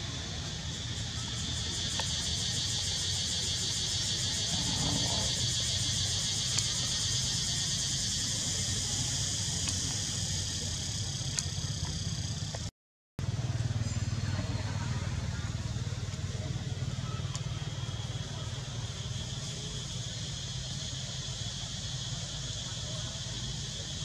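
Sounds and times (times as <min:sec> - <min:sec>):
high-pitched insect chorus: 0:00.0 - 0:12.7, 0:13.4 - 0:24.0.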